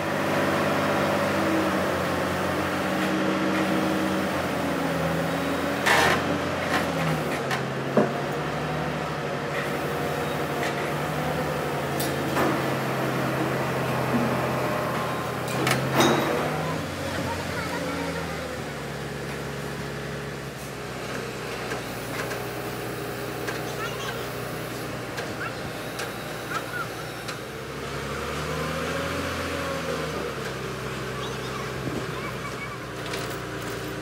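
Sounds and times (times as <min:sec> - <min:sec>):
workshop machinery humming: 0:00.0 - 0:34.0.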